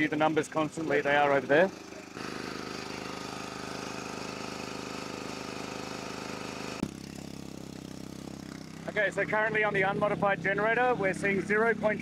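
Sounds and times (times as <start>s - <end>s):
generator engines droning: 0.0s - 12.0s.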